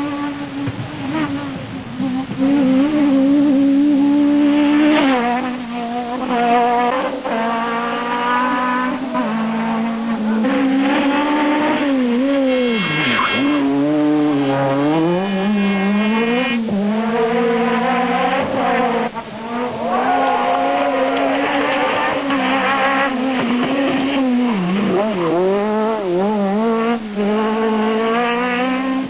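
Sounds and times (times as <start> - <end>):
rally car engine revving: 0.0 - 29.0.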